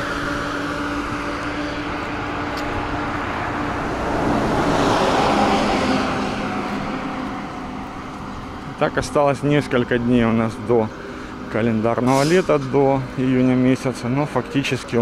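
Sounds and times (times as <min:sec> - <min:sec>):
road traffic passing: 0:00.0 - 0:15.0
vehicle passing close: 0:00.0 - 0:15.0.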